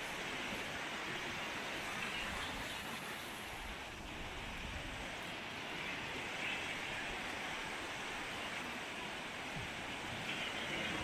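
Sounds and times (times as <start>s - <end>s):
small waves breaking on sand: 0.0s - 11.0s.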